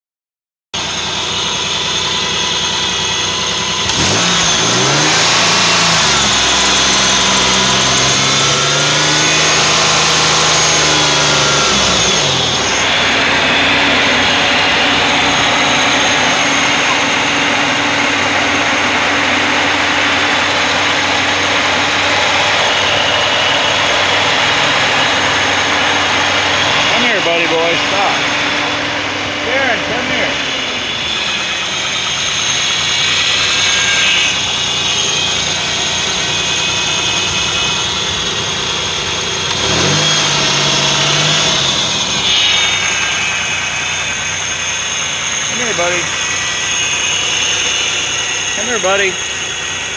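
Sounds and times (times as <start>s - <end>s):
minivan engine idling and revving: 0.8s - 49.9s.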